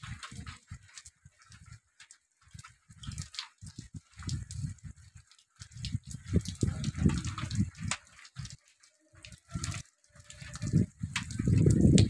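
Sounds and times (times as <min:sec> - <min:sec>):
wind buffeting microphone: 0:00.0 - 0:08.6, 0:09.2 - 0:12.0
rain: 0:00.0 - 0:12.0
water dripping: 0:00.0 - 0:12.0.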